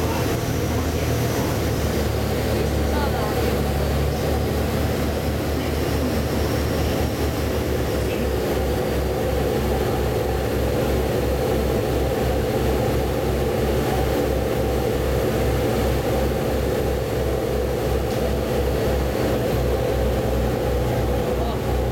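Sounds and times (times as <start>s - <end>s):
hull rushing through water: 0.0s - 21.9s
ship engines droning: 0.0s - 21.9s.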